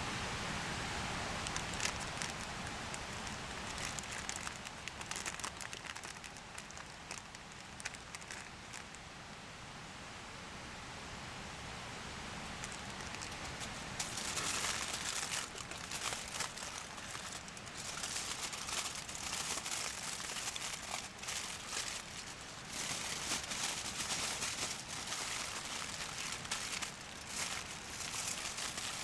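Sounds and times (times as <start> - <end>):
meat sizzling and crackling: 1.3 - 9.0, 12.4 - 29.0.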